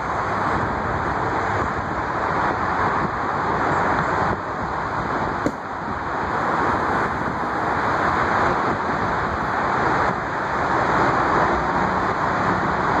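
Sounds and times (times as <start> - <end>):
rushing city street noise: 0.0 - 13.0.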